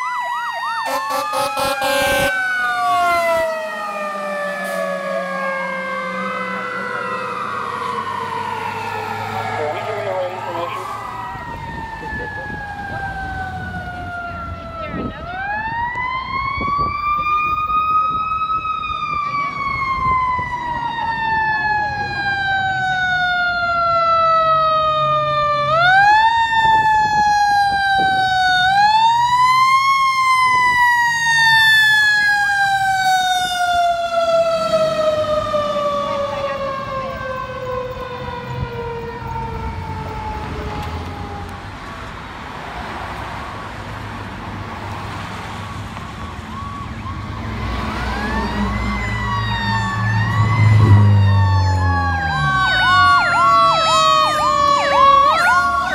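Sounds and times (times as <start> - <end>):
mechanical siren wailing: 0.0 - 41.8, 45.6 - 55.9
second siren rising and falling: 0.0 - 42.1, 43.9 - 55.9
heavy truck engine passing: 0.6 - 55.9.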